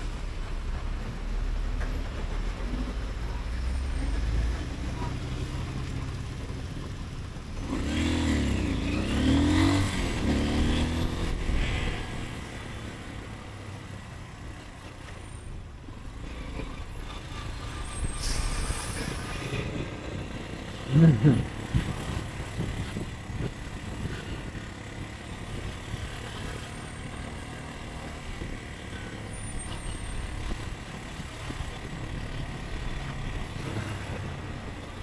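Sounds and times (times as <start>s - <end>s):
motorcycle engine rumble: 0.0s - 35.0s.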